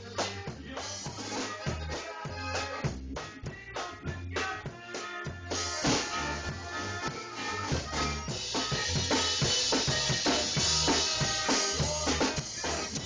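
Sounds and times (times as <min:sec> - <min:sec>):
bass guitar: 0:00.0 - 0:13.0
drum kit beat: 0:00.0 - 0:13.0.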